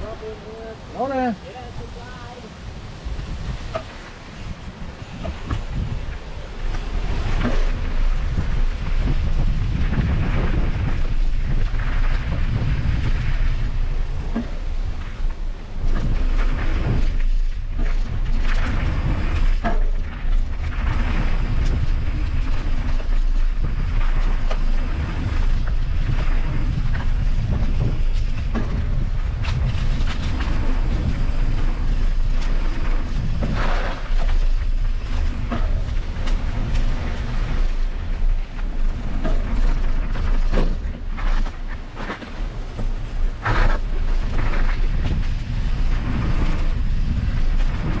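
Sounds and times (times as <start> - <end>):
bike tyre noise: 0.0 - 48.0
wind buffeting microphone: 0.0 - 48.0
bike knocks and rattles: 3.6 - 48.0.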